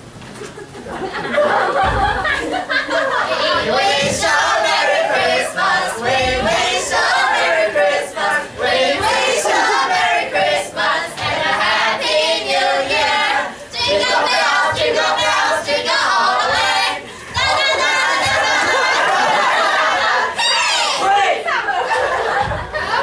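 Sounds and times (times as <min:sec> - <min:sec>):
young voices singing together: 0:01.0 - 0:23.0.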